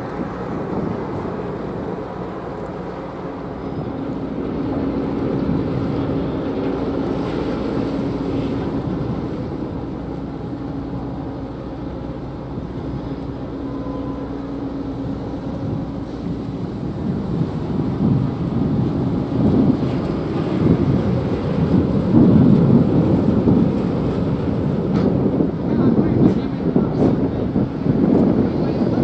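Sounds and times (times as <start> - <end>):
ship engines rumbling: 0.0 - 29.0.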